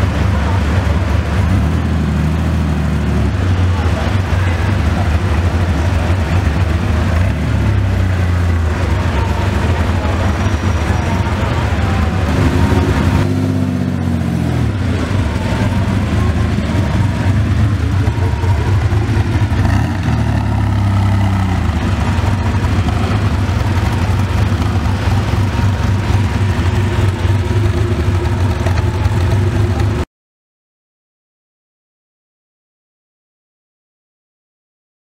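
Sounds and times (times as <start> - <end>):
car engine idling and revving: 0.0 - 30.1.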